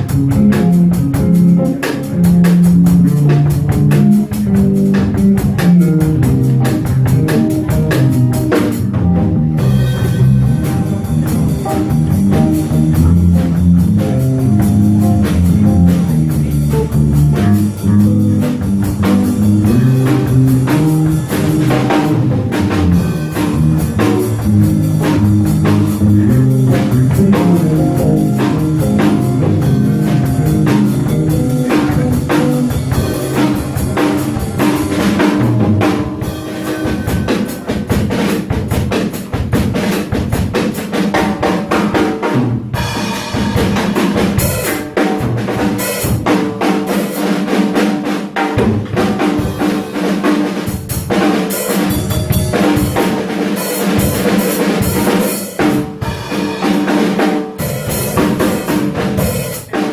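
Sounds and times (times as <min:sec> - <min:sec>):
drum kit hits: 0:00.0 - 0:59.9
jazz combo playing: 0:00.0 - 0:59.9.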